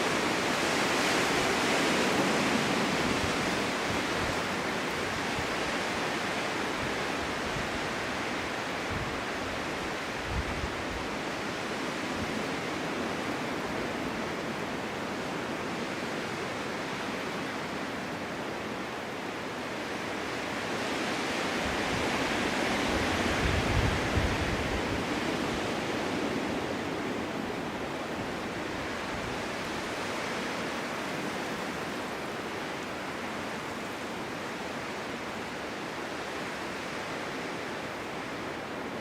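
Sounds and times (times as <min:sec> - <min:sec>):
snowstorm wind blowing: 0:00.0 - 0:39.0.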